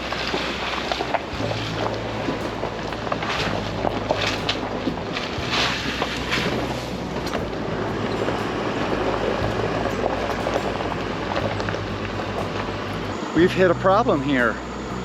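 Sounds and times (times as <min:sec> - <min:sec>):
low engine hum: 0:00.0 - 0:15.0
tyres on gravel: 0:00.0 - 0:15.0.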